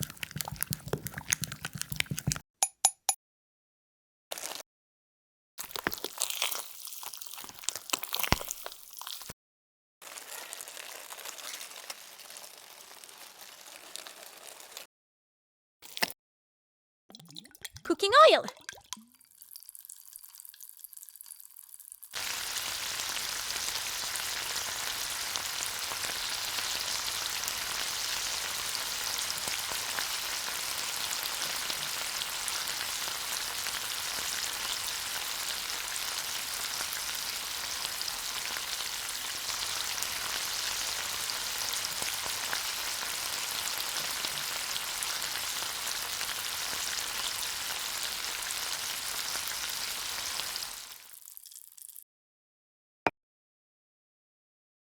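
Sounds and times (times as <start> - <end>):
food sizzling in hot oil: 0.0 - 2.4, 4.3 - 4.6, 5.7 - 9.3, 10.0 - 14.9, 19.2 - 52.0.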